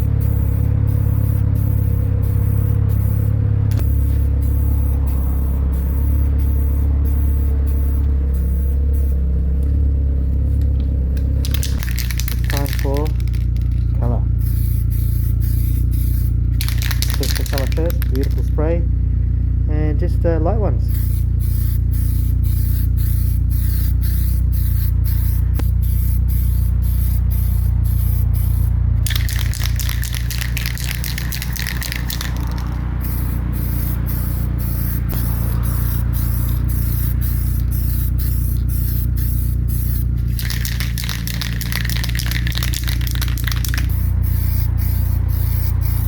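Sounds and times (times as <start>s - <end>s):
spray paint hissing: 0.0s - 9.2s, 10.3s - 18.6s, 20.9s - 46.0s
steady low hum: 0.0s - 46.0s.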